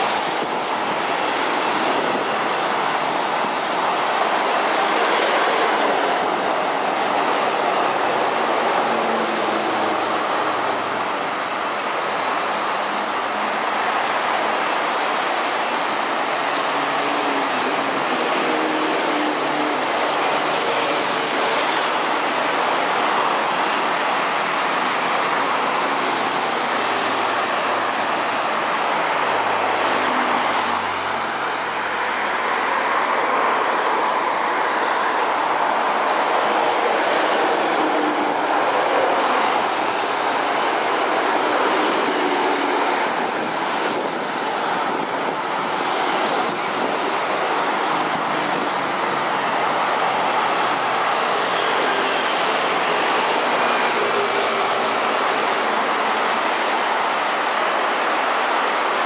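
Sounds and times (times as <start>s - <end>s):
tyre noise of passing traffic: 0.0s - 59.0s.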